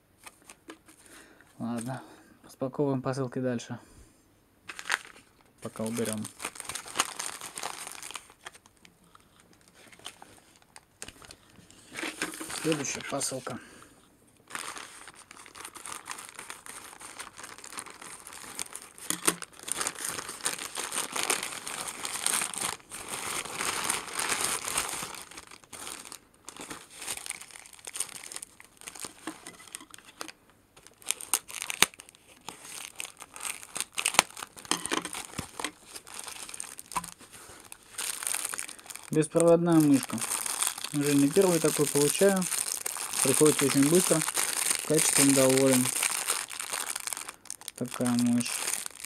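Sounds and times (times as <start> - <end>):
packaging tearing: 4.7 - 13.5, 14.5 - 49.0
plastic packaging crinkling: 4.7 - 49.0.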